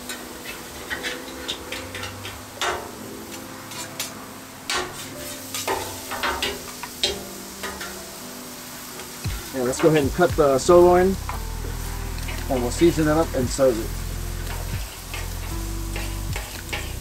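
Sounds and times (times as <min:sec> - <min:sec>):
spatula scraping a steel griddle: 0:00.0 - 0:10.0, 0:10.7 - 0:17.0
food sizzling: 0:00.0 - 0:17.0.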